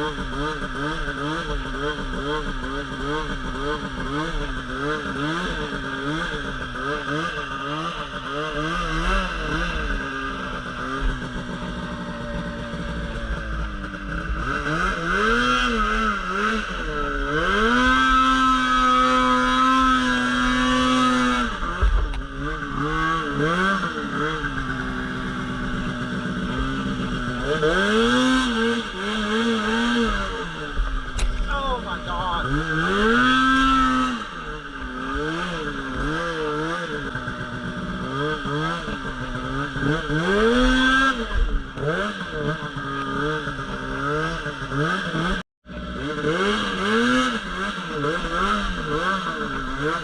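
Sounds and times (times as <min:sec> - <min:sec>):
snowmobile engine revving: 0:00.0 - 0:50.0.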